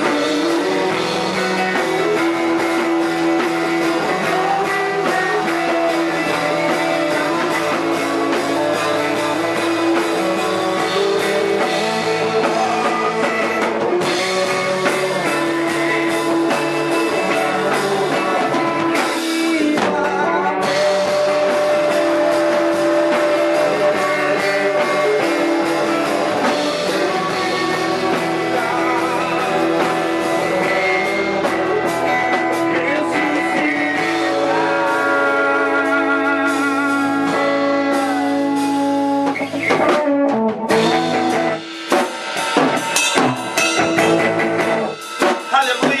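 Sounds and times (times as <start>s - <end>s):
person singing: 0.0s - 41.7s, 42.6s - 46.0s
drum kit: 0.0s - 46.0s
guitars: 0.0s - 46.0s.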